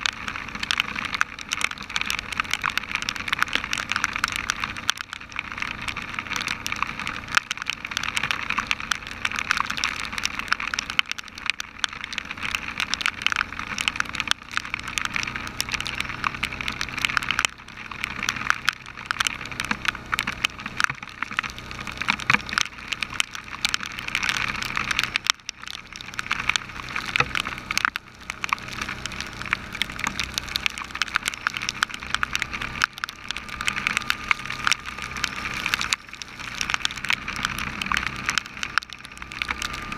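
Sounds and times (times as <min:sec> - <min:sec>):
heavy rain on camera housing: 0:00.0 - 0:39.9.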